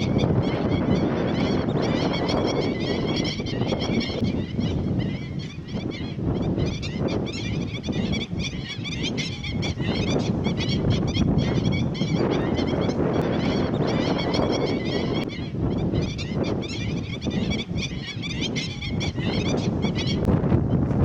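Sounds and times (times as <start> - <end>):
many birds chirping: 0.0 - 20.8.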